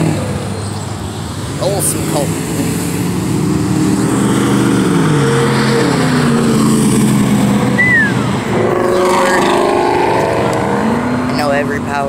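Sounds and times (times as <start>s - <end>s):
passing car engines and exhausts: 0.0s - 12.0s.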